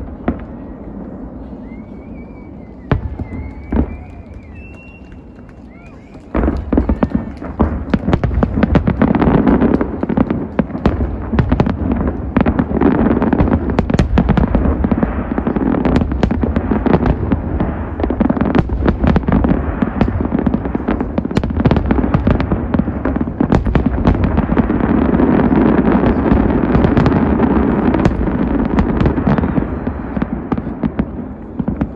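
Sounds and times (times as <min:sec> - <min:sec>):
fireworks cracks and bangs: 0:00.0 - 0:31.9.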